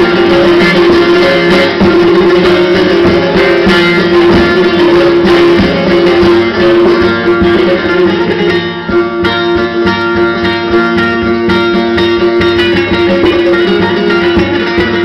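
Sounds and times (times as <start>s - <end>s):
plucked long-necked lute: 0.0s - 15.0s.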